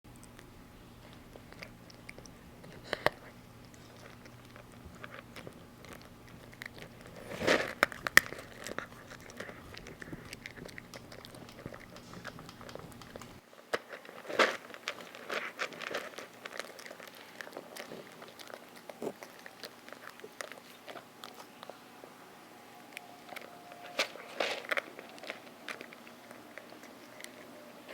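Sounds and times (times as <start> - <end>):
cat crunching dry kibble: 0.1 - 27.9.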